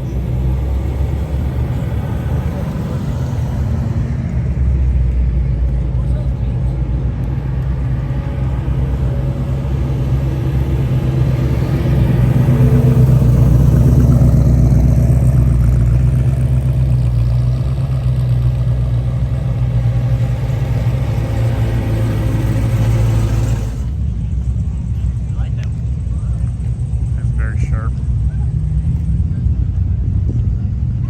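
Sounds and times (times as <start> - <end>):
car engine deep rumble: 0.0 - 31.0.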